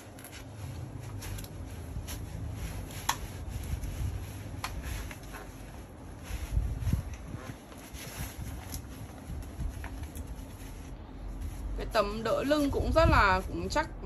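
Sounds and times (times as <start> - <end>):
fabric seat rustling: 0.0 - 13.4.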